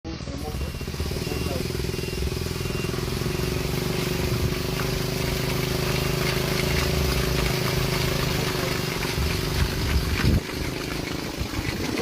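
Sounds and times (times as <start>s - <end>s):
aircraft engine running: 0.2s - 12.0s.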